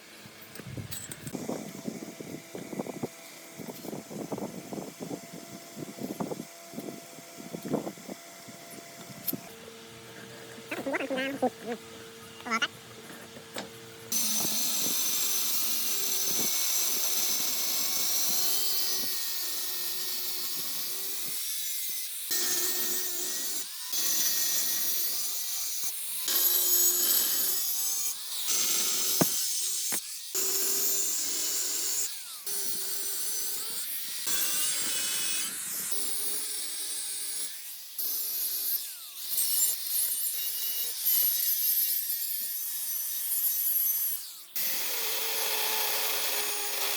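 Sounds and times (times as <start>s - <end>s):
power tool scraping: 0.0s - 46.9s.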